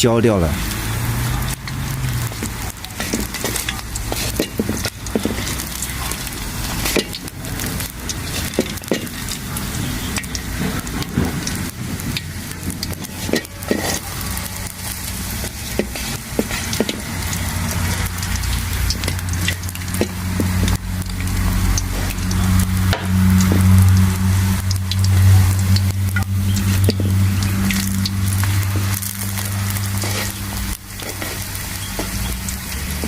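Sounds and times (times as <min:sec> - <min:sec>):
dough sizzling in oil: 0:00.6 - 0:33.0
sharp clicks and crackles: 0:00.7 - 0:33.0.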